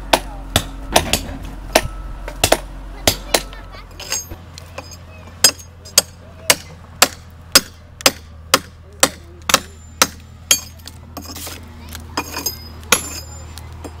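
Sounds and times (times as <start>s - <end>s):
hammer striking chisel on stone: 0.1s - 11.4s, 12.2s - 14.0s.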